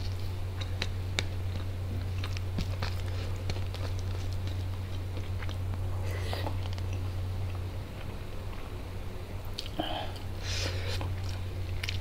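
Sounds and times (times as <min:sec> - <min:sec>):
chewing food: 0:00.0 - 0:08.7, 0:09.4 - 0:12.0
steady low hum: 0:00.0 - 0:12.0.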